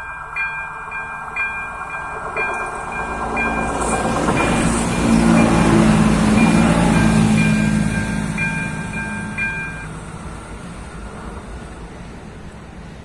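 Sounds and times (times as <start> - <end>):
level-crossing warning bell dinging: 0.0 - 11.0
diesel railcar engine hum: 0.0 - 13.0.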